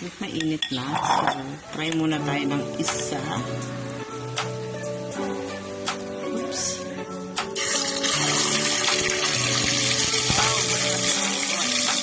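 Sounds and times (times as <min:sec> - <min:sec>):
food deep-frying in oil: 0:00.0 - 0:06.2, 0:07.4 - 0:12.0
background music: 0:00.0 - 0:12.0.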